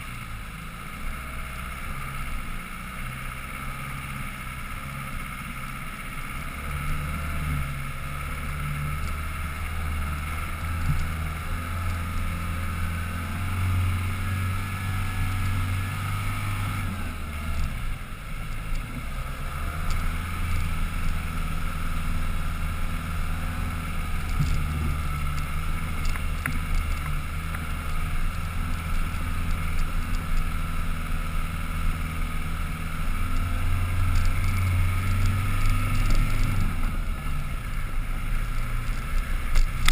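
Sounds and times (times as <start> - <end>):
off-road vehicle engine under load: 0.0 - 39.9.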